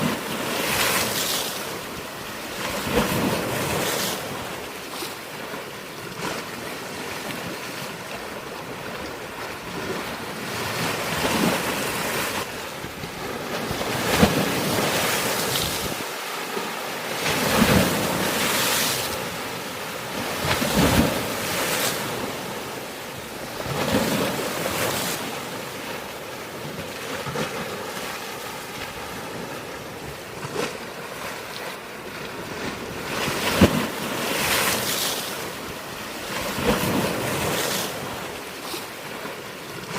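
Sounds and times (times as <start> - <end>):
waves crashing on rocks: 0.0 - 39.9.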